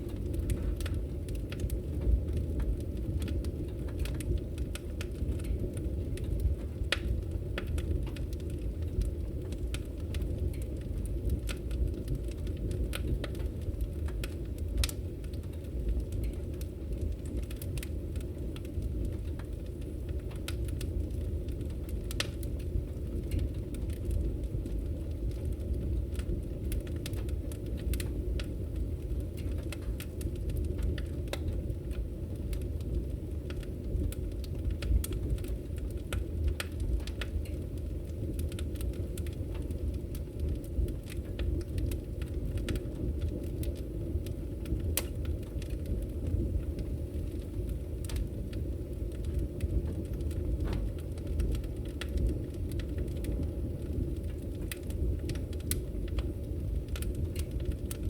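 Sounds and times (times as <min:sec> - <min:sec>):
firewood crackling and popping: 0:00.0 - 0:58.0
low rumble of flames: 0:00.0 - 0:58.0.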